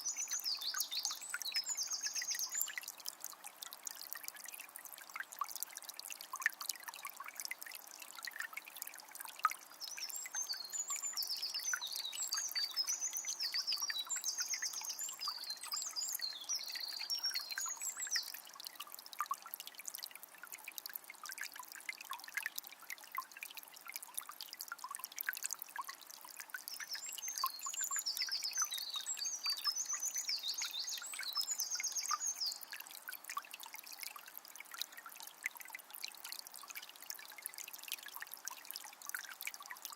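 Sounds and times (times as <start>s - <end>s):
spring water trickling: 0.0s - 39.9s.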